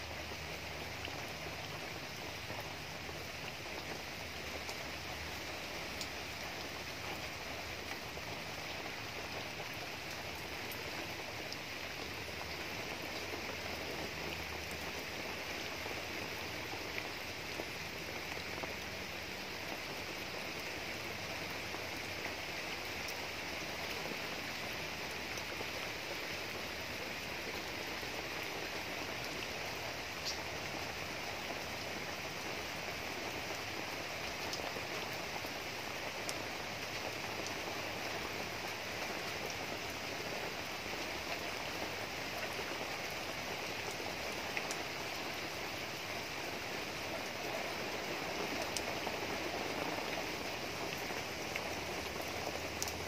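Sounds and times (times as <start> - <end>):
rain on leaves and ground: 0.0 - 53.0.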